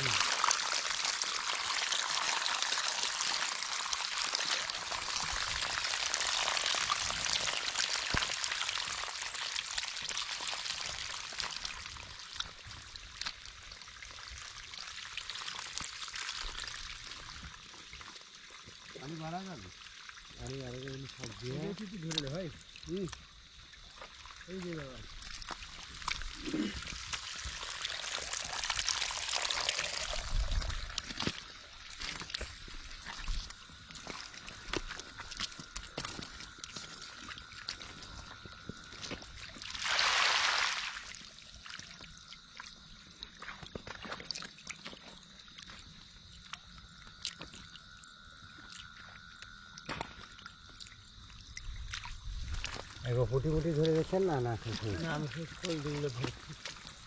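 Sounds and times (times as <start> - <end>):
water pouring and splashing: 0.0 - 47.9, 49.8 - 57.0.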